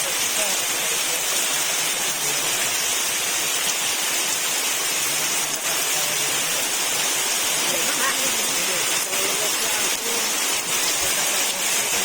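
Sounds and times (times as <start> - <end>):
heavy rain on trees: 0.0 - 12.0.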